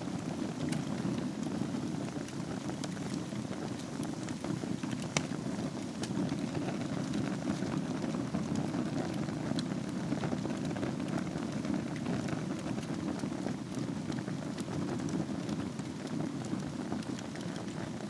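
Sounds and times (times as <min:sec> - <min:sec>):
fire crackles and pops: 0:00.0 - 0:18.0
fire rumbling in fireplace: 0:00.0 - 0:18.0.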